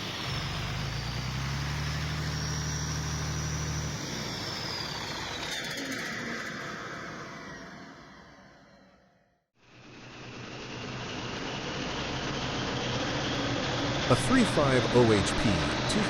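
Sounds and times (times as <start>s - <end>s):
diesel engine running: 0.0s - 7.7s, 9.7s - 16.0s.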